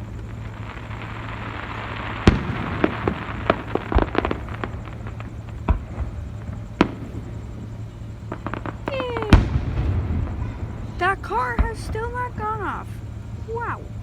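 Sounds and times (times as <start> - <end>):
fireworks booming and cracking: 0.0 - 14.0
low steady hum: 0.0 - 14.0.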